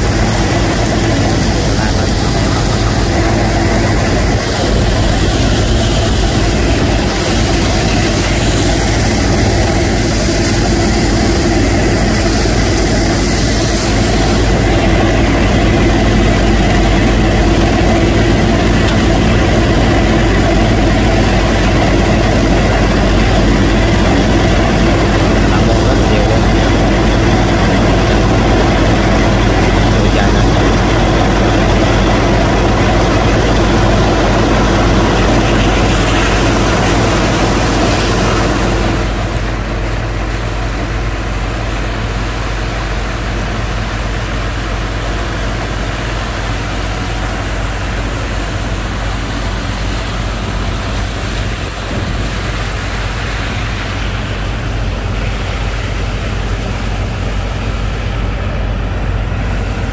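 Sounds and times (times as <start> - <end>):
engine low drone: 0.0 - 59.9
rushing noise: 0.0 - 59.9.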